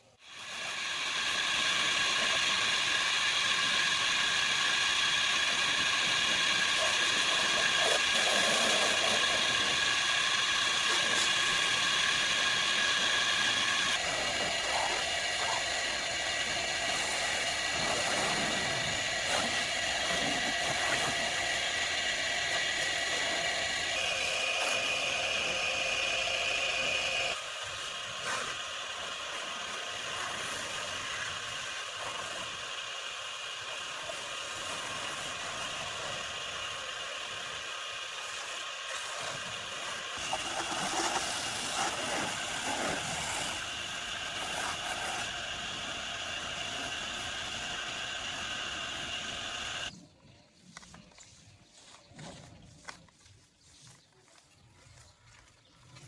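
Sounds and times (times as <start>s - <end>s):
small motor whining: 0.0s - 50.0s.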